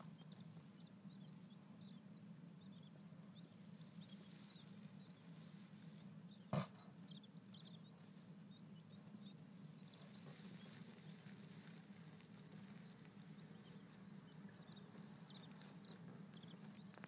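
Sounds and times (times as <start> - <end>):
quail chicks peeping: 0.0 - 17.0.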